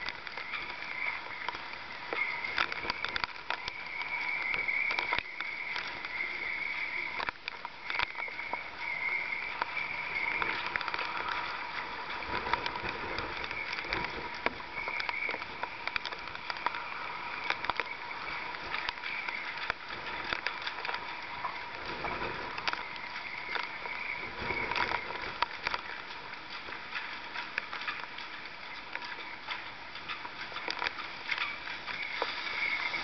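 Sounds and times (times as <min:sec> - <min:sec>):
rough sea sloshing: 0:00.0 - 0:33.0.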